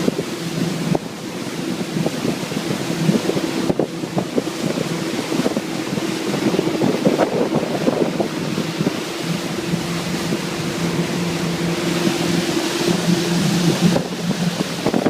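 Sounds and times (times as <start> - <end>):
boat engine running: 0.0 - 15.0
water rushing past hull: 0.0 - 15.0
wind buffeting microphone: 0.0 - 15.0.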